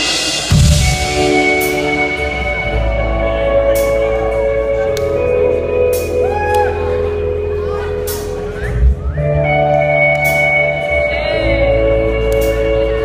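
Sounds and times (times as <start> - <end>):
electric guitar notes ringing: 0.0 - 13.0.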